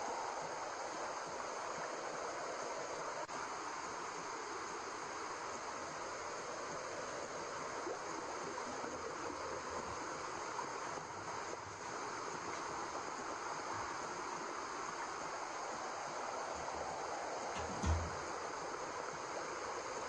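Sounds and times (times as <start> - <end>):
steady white noise hiss: 0.0 - 20.0.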